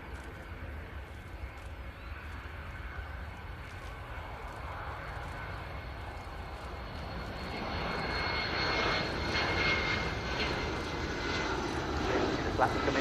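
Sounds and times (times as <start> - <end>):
jet engines roaring: 0.0 - 13.0
steady high whine: 0.0 - 13.0.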